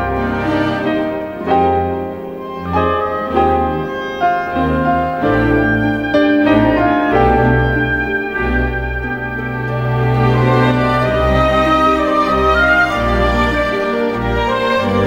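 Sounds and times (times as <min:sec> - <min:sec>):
slow instrumental melody: 0:00.0 - 0:15.0.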